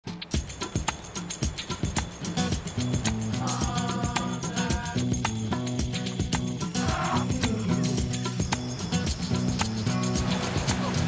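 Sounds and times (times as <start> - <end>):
background theme music: 0.2 - 11.0.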